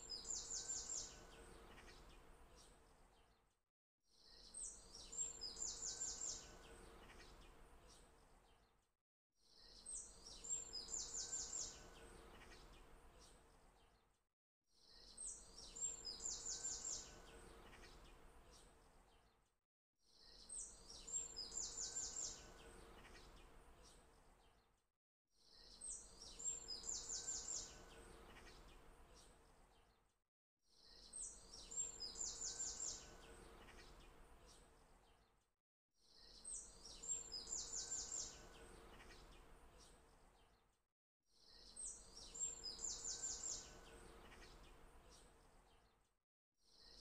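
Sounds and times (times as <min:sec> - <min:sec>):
recorded birdsong: 0:00.0 - 0:03.5, 0:04.1 - 0:08.8, 0:09.4 - 0:19.5, 0:20.1 - 0:24.8, 0:25.4 - 0:30.1, 0:30.7 - 0:35.4, 0:36.0 - 0:40.8, 0:41.4 - 0:47.0.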